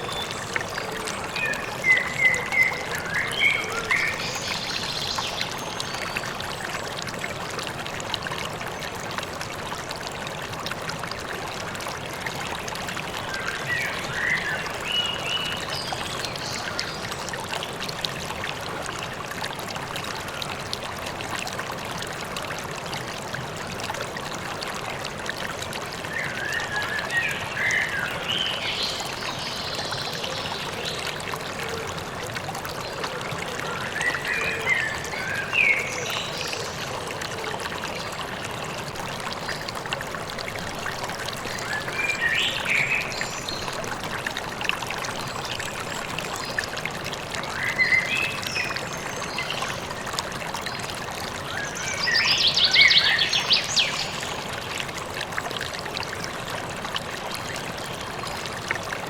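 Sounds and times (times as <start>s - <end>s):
river water running: 0.0s - 59.0s.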